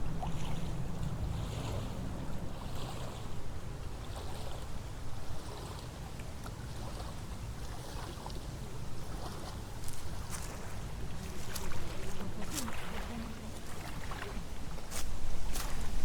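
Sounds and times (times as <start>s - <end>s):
wind rumbling on microphone: 0.0s - 5.9s, 6.7s - 16.0s.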